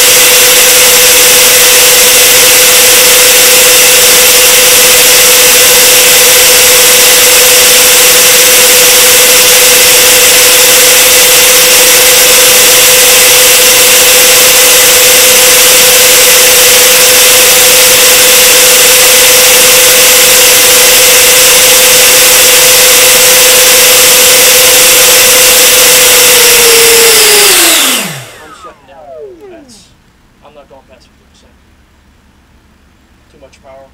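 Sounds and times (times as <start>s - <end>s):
electric ducted fans whining: 0.0s - 33.9s.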